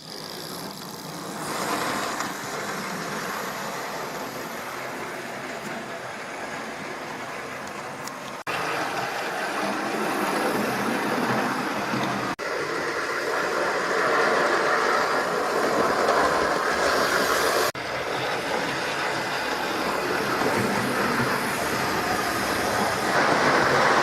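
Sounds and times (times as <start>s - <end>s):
model train whirring and rattling: 0.0s - 24.0s.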